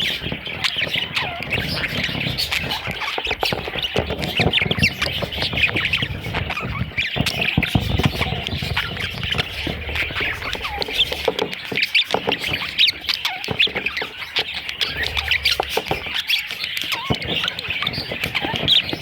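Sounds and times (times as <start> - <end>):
budgerigars chattering and squawking: 0.0 - 19.0.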